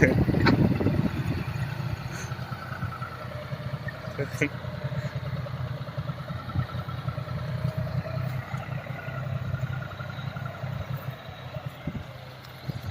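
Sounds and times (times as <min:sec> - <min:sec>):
tractor diesel engine chugging: 0:00.0 - 0:12.9.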